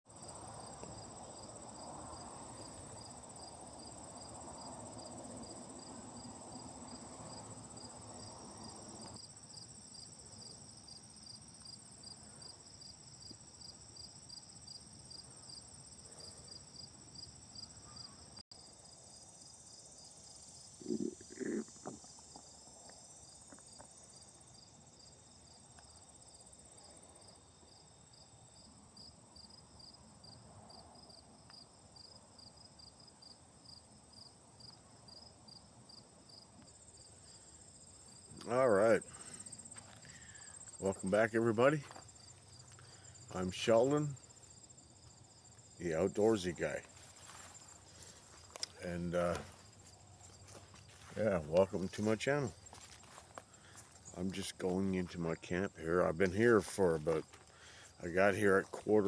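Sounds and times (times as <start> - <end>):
crickets chirping: 0.1 - 59.0
insects buzzing: 0.1 - 59.0.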